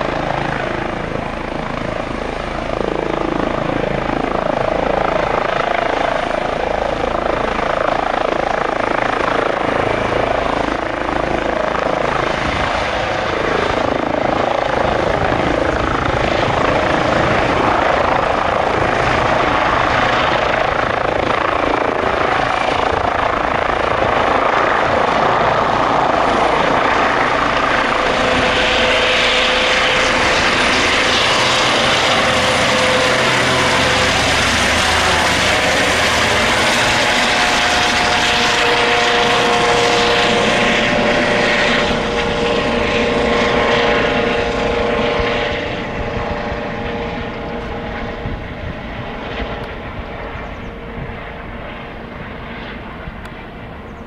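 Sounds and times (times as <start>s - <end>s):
helicopter hovering: 0.0s - 54.0s
steady whine: 0.0s - 54.0s.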